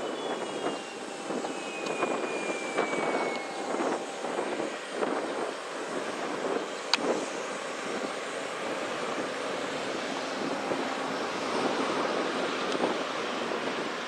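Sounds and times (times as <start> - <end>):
airliner engine rushing: 0.0 - 14.0.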